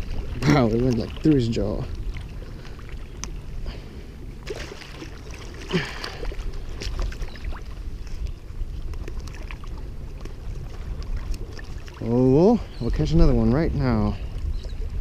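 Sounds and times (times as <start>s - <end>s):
shallow water sloshing: 0.0s - 15.0s.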